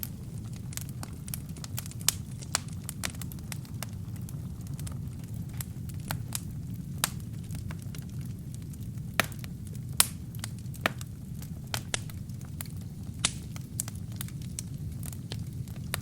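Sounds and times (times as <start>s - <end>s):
low rumble of flame: 0.0s - 16.0s
wood crackling and popping: 0.0s - 16.0s.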